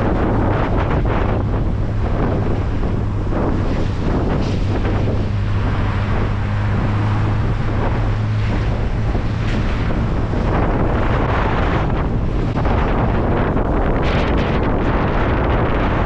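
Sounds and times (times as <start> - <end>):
car engine droning: 0.0 - 16.0
road and wind noise: 0.0 - 16.0.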